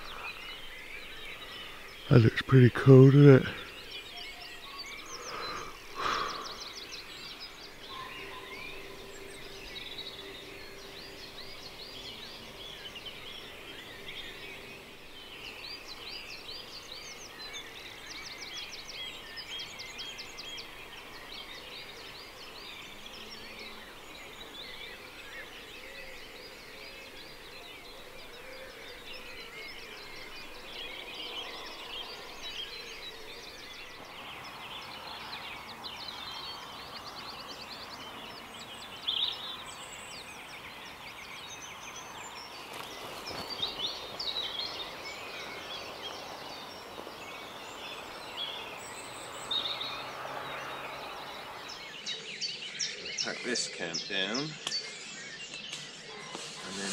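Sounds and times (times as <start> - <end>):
loud nearby bird calls: 0.0 - 56.9
small birds singing: 0.0 - 56.9.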